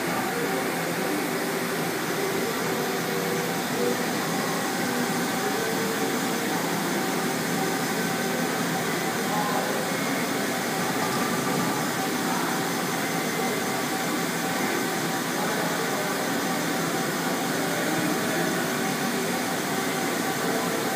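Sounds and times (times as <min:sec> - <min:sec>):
machine hum and hiss: 0:00.0 - 0:20.9.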